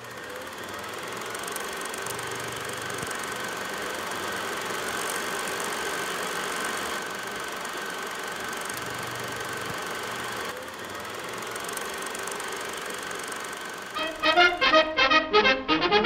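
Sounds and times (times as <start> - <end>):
film projector clattering: 0.0 - 14.7.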